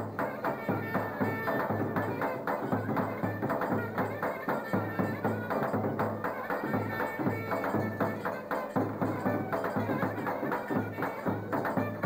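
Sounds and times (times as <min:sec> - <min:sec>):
quick drum strokes: 0:00.0 - 0:12.0.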